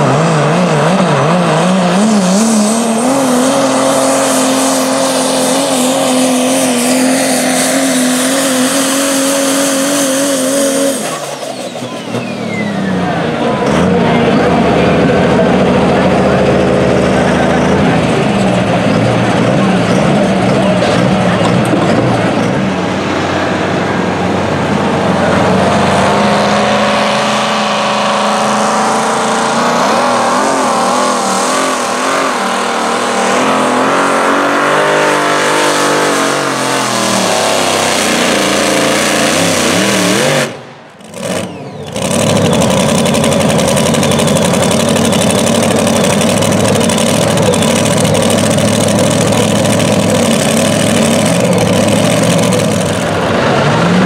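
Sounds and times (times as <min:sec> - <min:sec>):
truck engine running hard: 0:00.0 - 0:54.0.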